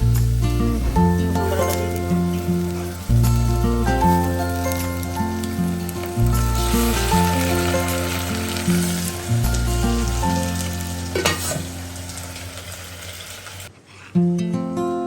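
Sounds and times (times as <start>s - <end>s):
background music: 0.0s - 13.0s
food sizzling in a pan: 0.0s - 13.7s.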